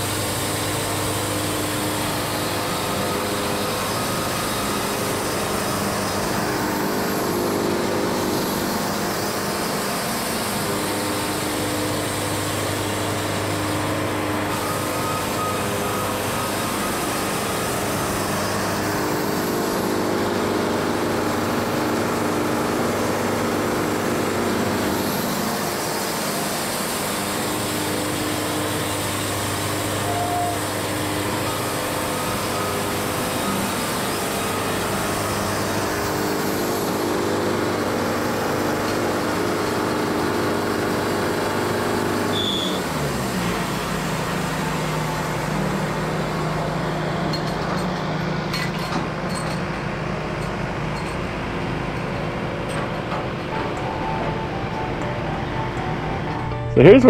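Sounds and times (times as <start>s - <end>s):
band sawmill engine humming: 0.0s - 57.0s.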